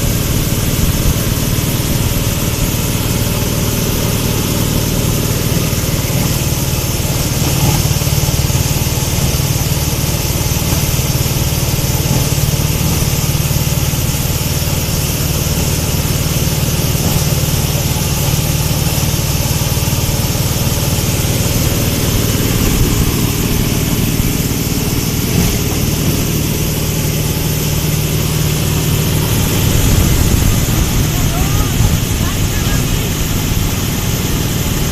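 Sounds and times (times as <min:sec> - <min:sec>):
grinding machine humming: 0:00.0 - 0:34.9.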